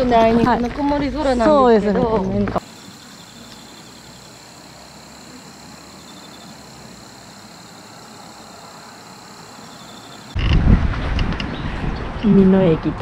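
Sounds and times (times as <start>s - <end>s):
even outdoor hiss: 0.0s - 10.6s.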